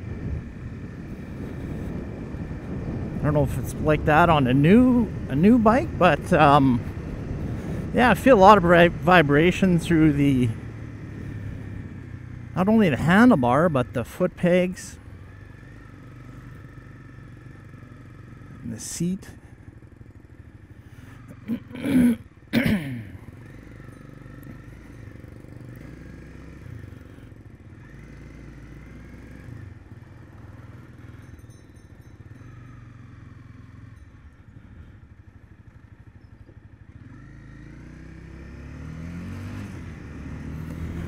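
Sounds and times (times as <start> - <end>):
motorcycle engine droning: 0.0 - 41.0.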